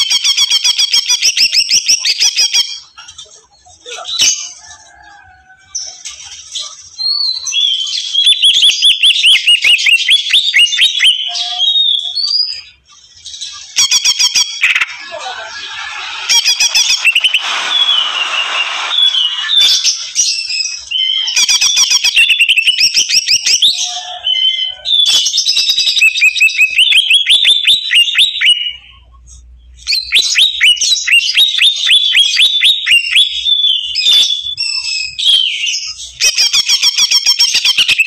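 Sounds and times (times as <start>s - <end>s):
bird singing rapid chattering notes: 5.8s - 23.8s, 24.4s - 28.9s, 29.6s - 38.0s.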